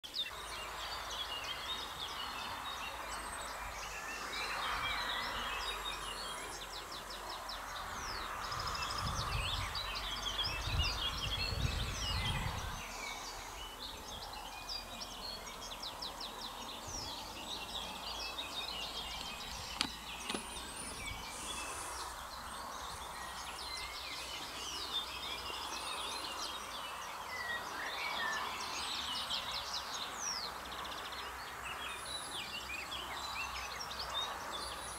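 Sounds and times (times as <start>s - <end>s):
songbirds singing: 0.0s - 34.9s
outdoor background hiss: 0.1s - 34.9s.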